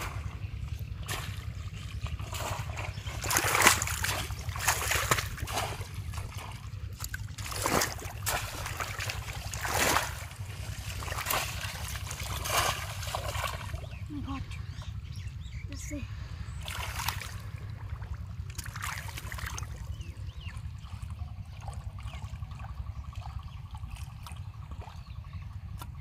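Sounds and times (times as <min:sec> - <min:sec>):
pond water splashing: 0:00.0 - 0:15.0, 0:16.6 - 0:26.0
steady low hum: 0:00.0 - 0:26.0.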